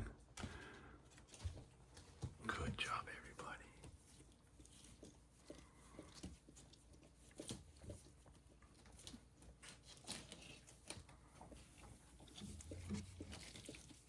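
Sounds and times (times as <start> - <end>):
puppies rustling and clicking: 0.0 - 2.8, 3.7 - 14.0.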